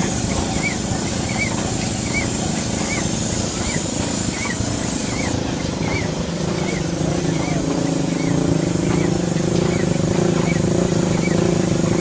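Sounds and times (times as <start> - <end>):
steam engine rumbling: 0.0 - 12.0
rising and falling squeak: 0.3 - 12.0.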